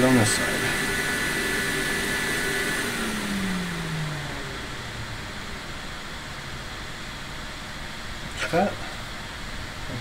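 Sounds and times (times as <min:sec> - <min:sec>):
electric fan whirring: 0:00.0 - 0:10.0.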